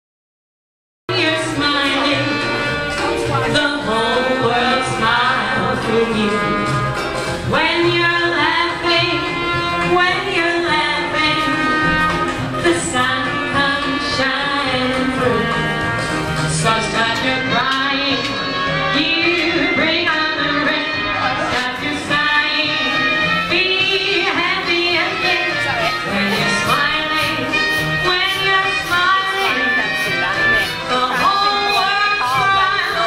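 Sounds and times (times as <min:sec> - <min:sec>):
popular song with band: 0:01.1 - 0:33.0.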